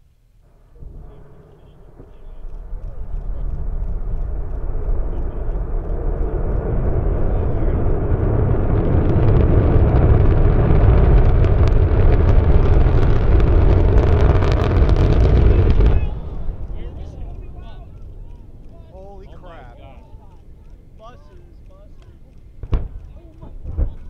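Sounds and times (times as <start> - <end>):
distant rocket engine roar: 0.4 - 24.0.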